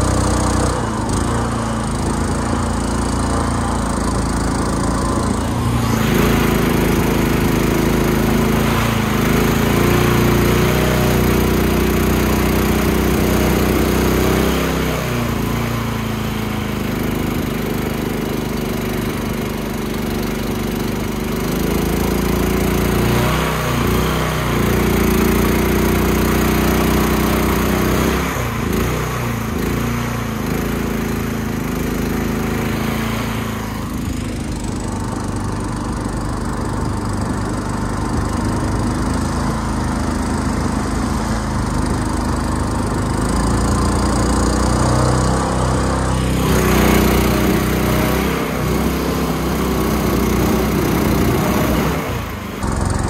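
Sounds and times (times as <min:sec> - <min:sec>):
boat engine running: 0:00.0 - 0:53.0
water rushing past hull: 0:00.0 - 0:53.0.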